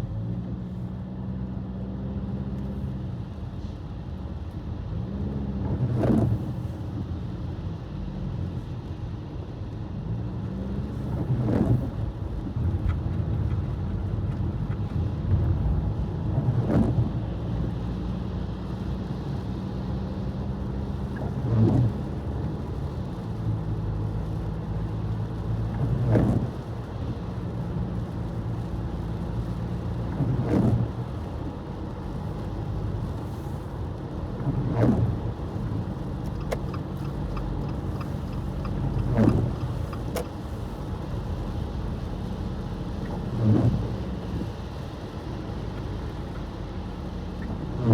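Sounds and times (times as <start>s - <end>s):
car engine and road hum: 0.0s - 47.9s.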